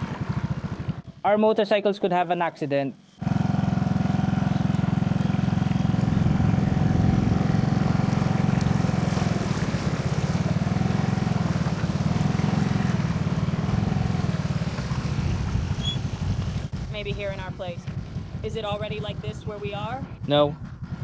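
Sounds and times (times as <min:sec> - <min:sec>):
motorcycle engine running: 0:00.0 - 0:01.4, 0:03.0 - 0:21.0.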